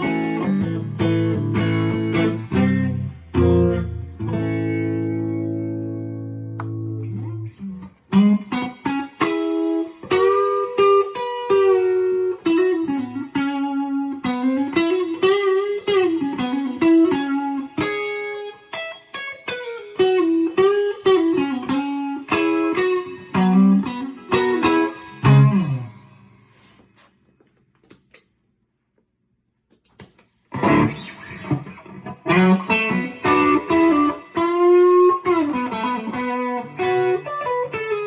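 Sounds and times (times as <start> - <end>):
electric guitar lead line: 0.0 - 26.7, 30.5 - 38.0.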